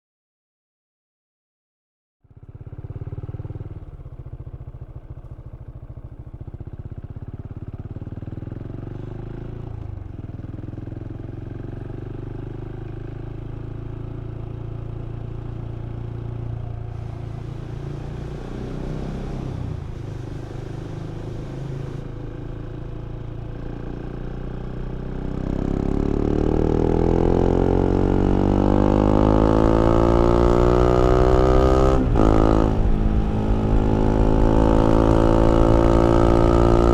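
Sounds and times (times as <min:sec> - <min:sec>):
motorcycle engine revving: 0:02.3 - 0:36.9.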